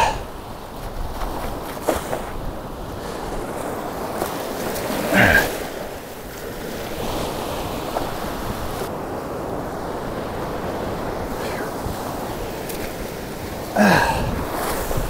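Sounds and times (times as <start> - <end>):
surf washing over sand: 0.0 - 15.0
wind buffeting microphone: 0.0 - 15.0.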